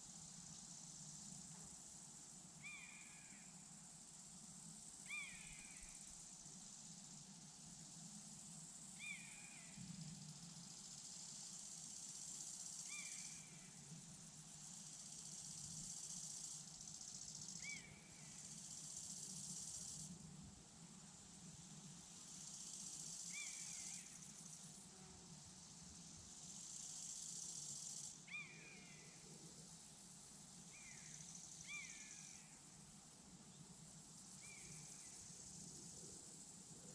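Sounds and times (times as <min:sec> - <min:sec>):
crickets chirping: 0:00.0 - 0:36.9.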